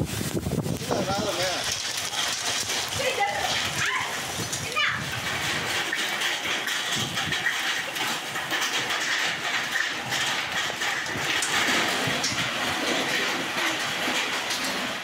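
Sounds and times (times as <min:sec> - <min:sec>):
hail and heavy rain hissing: 0:00.0 - 0:15.0
hailstones ticking: 0:00.0 - 0:15.0.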